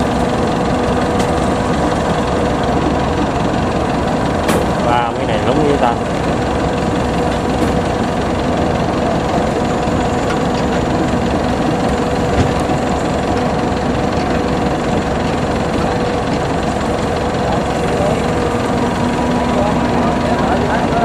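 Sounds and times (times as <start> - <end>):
harvester engine droning: 0.0 - 21.0.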